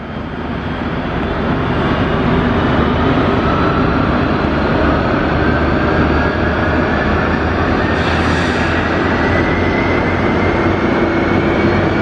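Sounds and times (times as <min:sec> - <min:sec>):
jet engine spooling up: 0:00.6 - 0:12.0.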